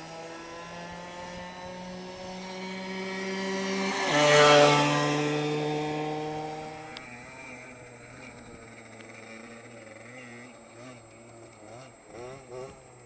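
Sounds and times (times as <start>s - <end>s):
motorbike passing at speed: 0.0s - 13.0s.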